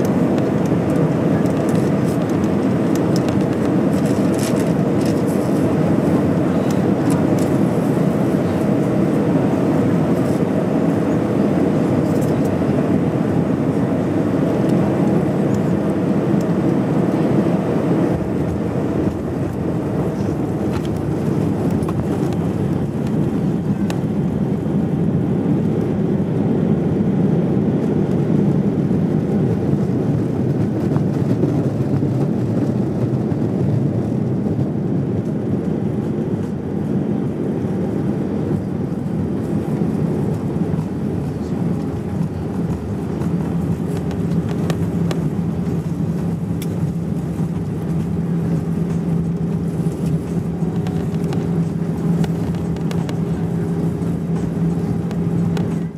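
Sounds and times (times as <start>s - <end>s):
low rumble of engines and wheels: 0.0s - 55.9s
steady low hum: 0.0s - 55.9s.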